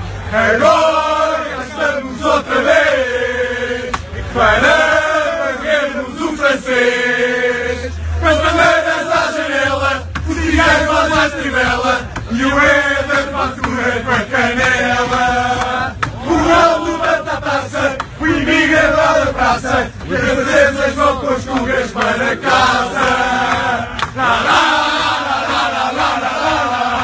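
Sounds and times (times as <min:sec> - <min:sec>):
crowd chanting la la la: 0:00.0 - 0:27.0.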